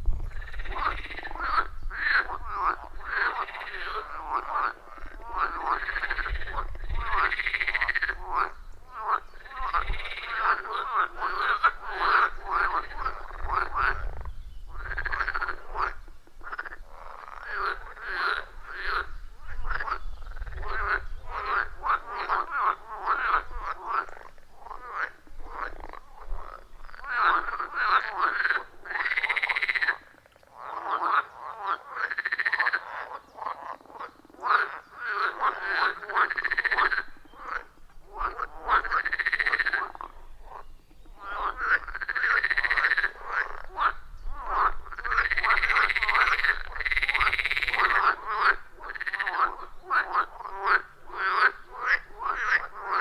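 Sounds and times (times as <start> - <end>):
frogs croaking: 0.0 - 53.0
drawn-out frog calls: 0.1 - 53.0.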